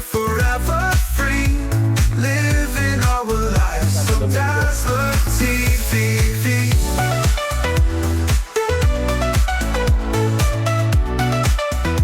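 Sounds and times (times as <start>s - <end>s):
upbeat electronic pop music: 0.0s - 12.0s.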